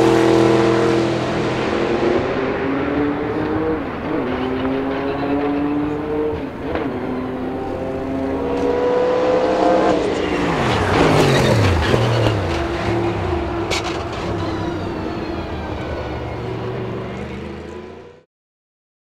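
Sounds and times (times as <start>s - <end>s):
race engine revving: 0.0s - 18.2s.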